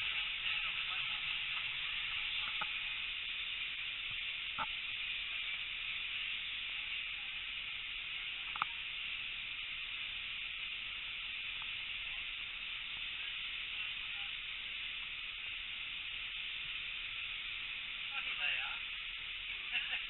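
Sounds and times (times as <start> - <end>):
steam hissing from locomotive: 0.0 - 20.0.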